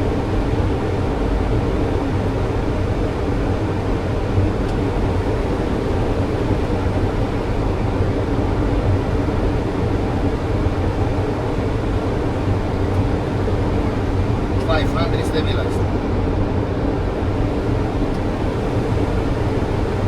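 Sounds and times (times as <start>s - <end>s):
jet engines: 0.0s - 20.0s.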